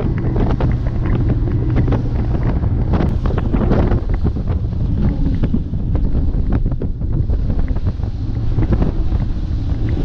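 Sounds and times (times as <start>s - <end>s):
outboard motor drone: 0.0s - 10.0s
wind buffeting microphone: 0.0s - 10.0s.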